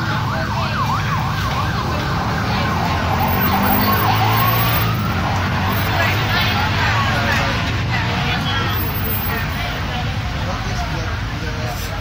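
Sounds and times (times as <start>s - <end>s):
emergency vehicle siren: 0.0s - 9.8s
low hum of traffic: 0.0s - 12.0s.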